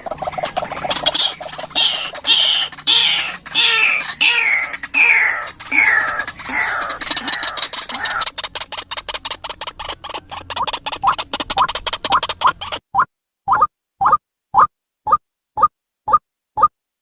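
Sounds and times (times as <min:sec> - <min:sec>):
waterhen calling: 0:00.0 - 0:14.7.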